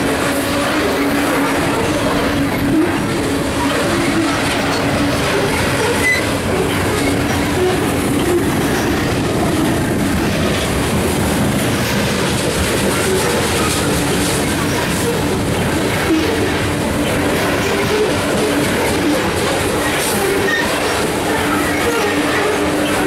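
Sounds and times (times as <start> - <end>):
freight train wheels clattering: 0.0 - 23.0.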